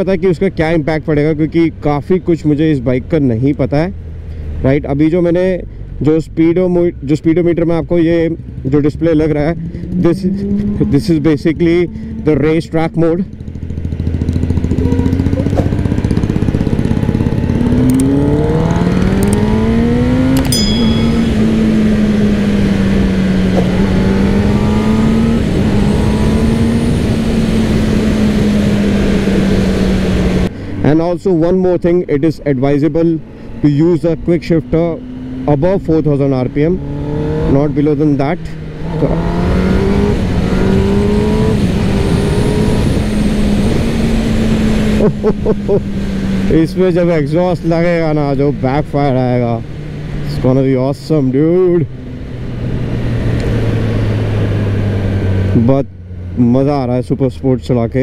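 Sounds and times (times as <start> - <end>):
motorcycle engine accelerating: 7.4 - 58.0.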